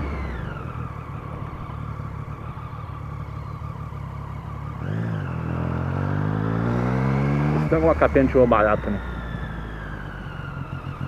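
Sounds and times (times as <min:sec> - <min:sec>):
motorcycle engine idling: 0:00.0 - 0:06.6, 0:07.7 - 0:11.0.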